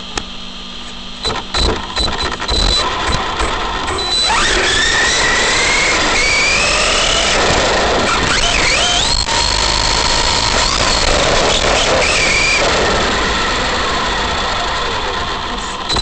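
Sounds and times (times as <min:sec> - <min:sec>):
tyres on asphalt: 0:00.2 - 0:16.0
toy truck motor whining: 0:01.2 - 0:16.0.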